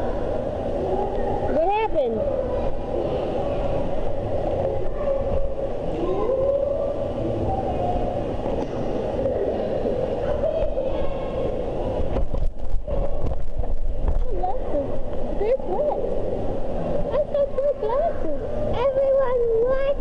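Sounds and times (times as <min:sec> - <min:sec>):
faint gliding tones: 0:00.0 - 0:20.0
steady hum: 0:00.0 - 0:20.0.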